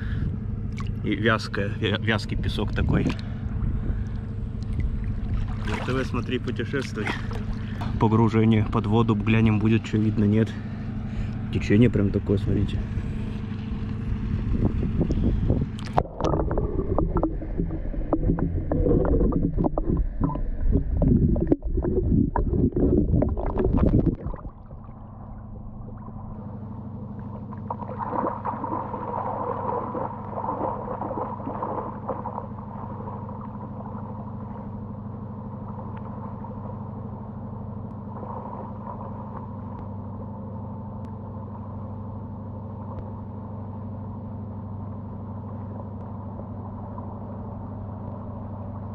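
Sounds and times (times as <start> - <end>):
ship engine droning: 0.0 - 48.9.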